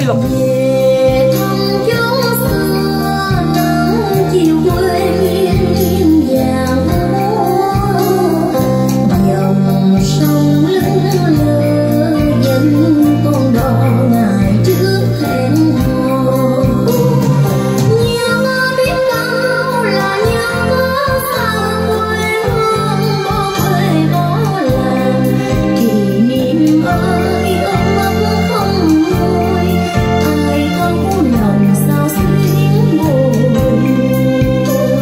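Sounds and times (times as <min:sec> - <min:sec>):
woman singing: 0:00.0 - 0:35.0.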